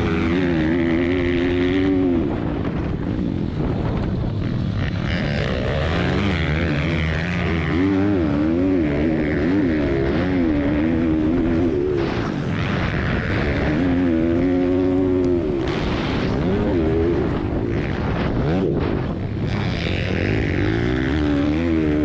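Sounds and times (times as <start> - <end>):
pit bike engines revving: 0.0 - 22.0.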